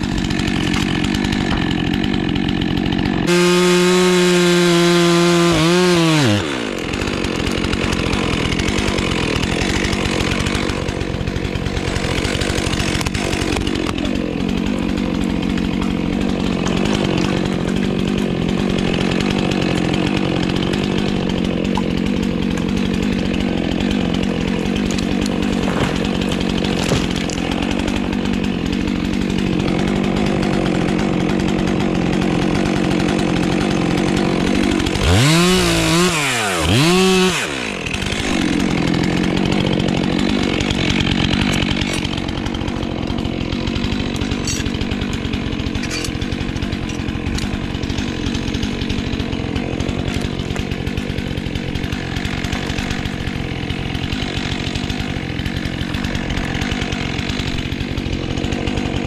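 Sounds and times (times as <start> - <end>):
chainsaw at full throttle: 0.0 - 59.0.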